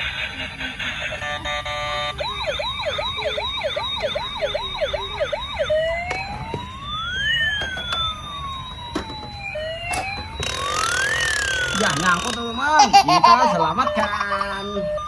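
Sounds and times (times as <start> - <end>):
toy siren beep chord: 0.0 - 15.0
toy siren wail: 0.0 - 15.0
toy siren yelp: 0.0 - 15.0.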